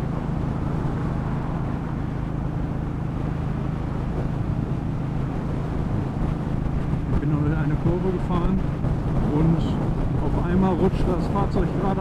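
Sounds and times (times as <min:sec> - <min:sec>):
car engine and tyre hum: 0:00.0 - 0:12.0.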